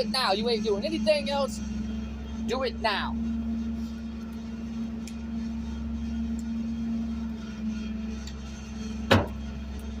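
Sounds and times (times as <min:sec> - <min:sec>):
garbage truck engine humming: 0:00.0 - 0:10.0.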